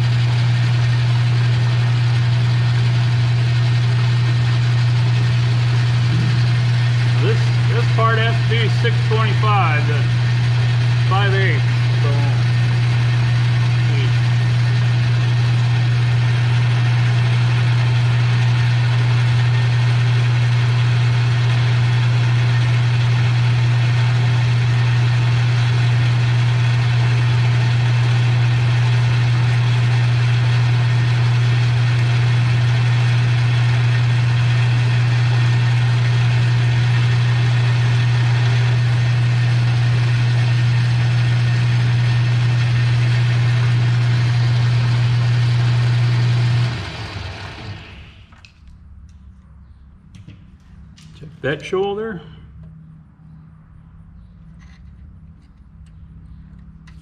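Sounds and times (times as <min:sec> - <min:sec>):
metal lathe running: 0:00.0 - 0:48.3.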